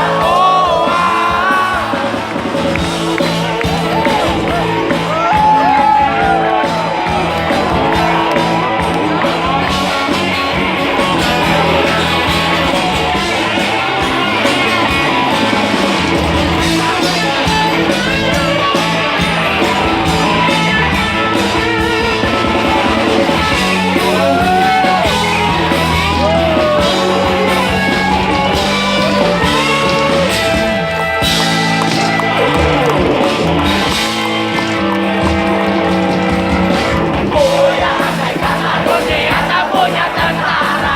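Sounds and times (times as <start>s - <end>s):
electric guitar: 0.0s - 40.9s
rock band playing: 0.0s - 40.9s.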